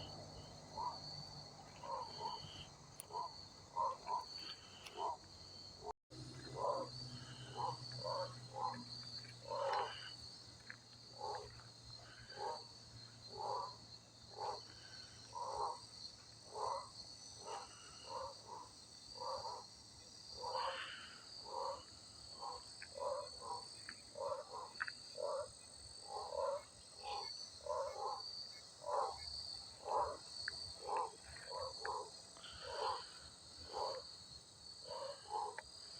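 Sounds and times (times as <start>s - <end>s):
frogs croaking: 0.0s - 35.9s.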